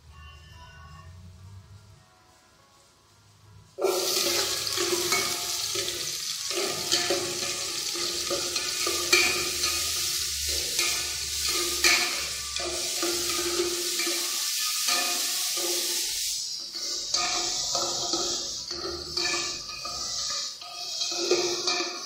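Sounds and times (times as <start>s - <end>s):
garlic and ginger sizzling in oil: 3.5s - 22.0s.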